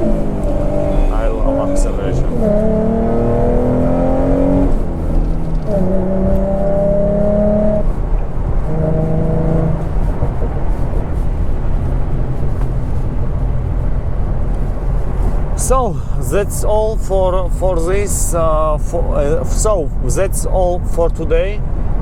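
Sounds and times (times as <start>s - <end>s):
car engine accelerating: 0.0s - 22.0s
road noise: 0.0s - 22.0s.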